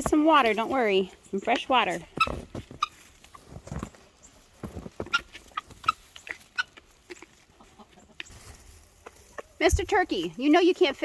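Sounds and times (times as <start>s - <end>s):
chickens clucking: 0.0s - 10.6s.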